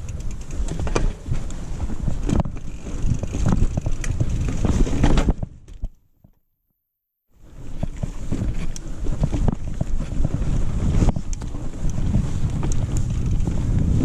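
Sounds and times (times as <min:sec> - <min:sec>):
bike rattling over rocks: 0:00.0 - 0:06.0, 0:07.6 - 0:14.0
wind buffeting microphone: 0:00.0 - 0:06.0, 0:07.4 - 0:14.0.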